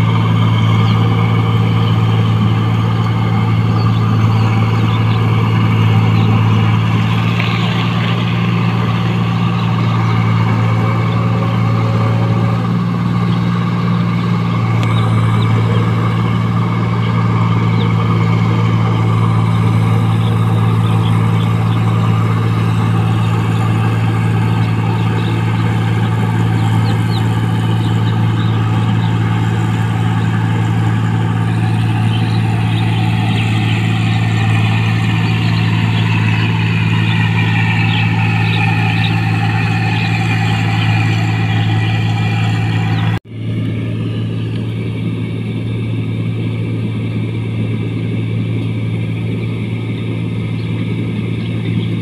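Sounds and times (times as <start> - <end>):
combine harvester engine drone: 0.0 - 52.0
machine working hum: 0.0 - 52.0.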